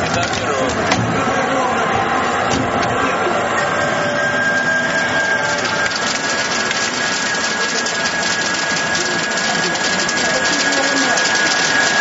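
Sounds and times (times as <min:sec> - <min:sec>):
machine running with high whine: 0:00.0 - 0:12.0.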